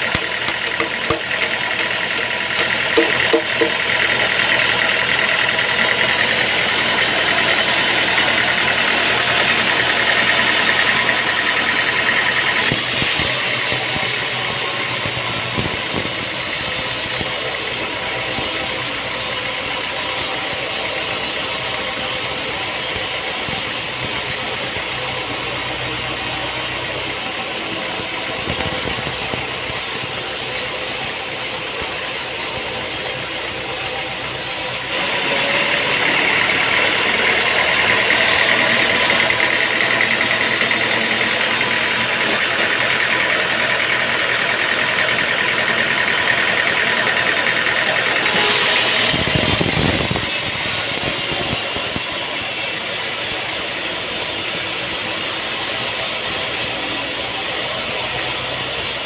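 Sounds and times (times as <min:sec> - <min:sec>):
mechanical hum: 0:00.0 - 0:45.3, 0:47.2 - 0:59.0
high machine whine: 0:00.0 - 0:59.0.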